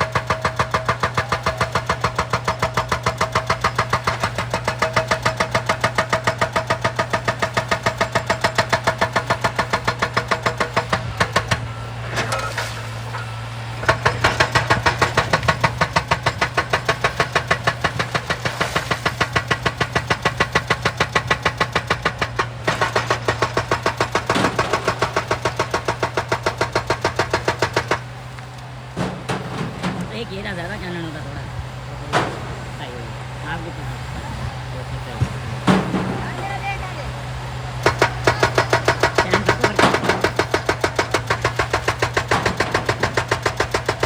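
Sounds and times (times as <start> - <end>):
low machine hum: 0.0 - 44.0
machine pounding: 0.0 - 44.0.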